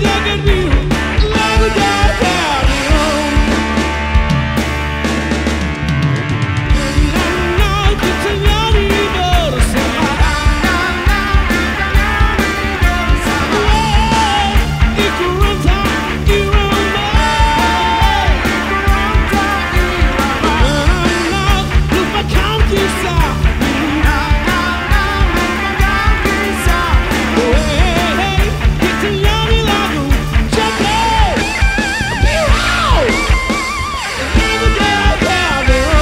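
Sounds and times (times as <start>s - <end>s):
man singing: 0.0s - 3.8s, 6.7s - 33.4s, 34.2s - 36.0s
bass guitar: 0.0s - 36.0s
drum kit beat: 0.0s - 36.0s
electric guitars: 0.0s - 36.0s.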